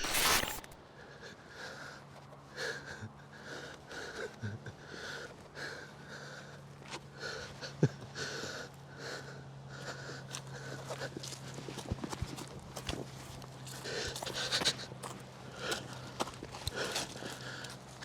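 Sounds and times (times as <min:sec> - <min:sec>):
person breathing hard: 0:00.8 - 0:12.0, 0:13.6 - 0:18.0.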